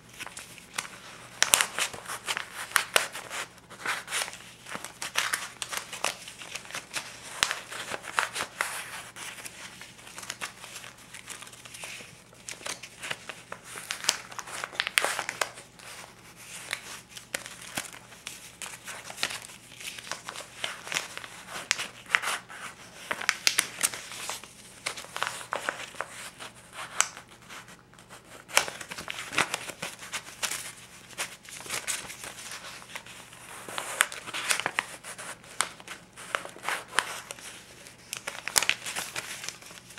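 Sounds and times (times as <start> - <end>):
paper bills rustling and snapping: 0.1 - 39.9.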